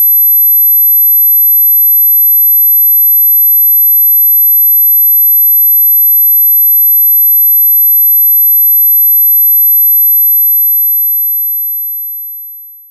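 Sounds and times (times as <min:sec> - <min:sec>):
high-pitched sine tone: 0:00.0 - 0:12.9.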